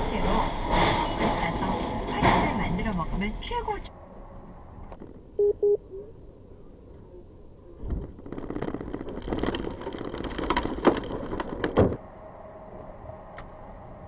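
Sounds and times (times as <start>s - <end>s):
road noise inside car: 0.0s - 14.0s.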